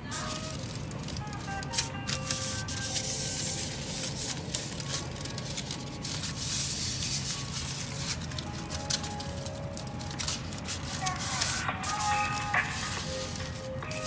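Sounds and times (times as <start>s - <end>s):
aluminium foil crinkling: 0.0s - 14.0s
faint background music: 0.0s - 14.0s.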